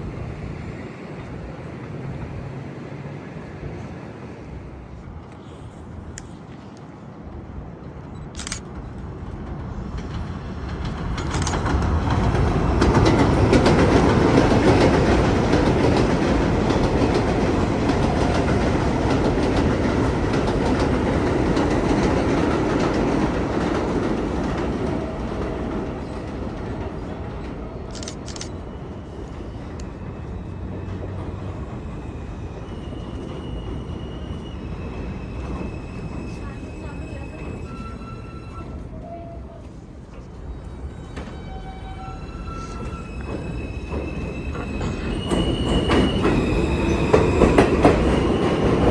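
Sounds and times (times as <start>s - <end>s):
train rumble and wheel clatter: 0.0s - 48.9s.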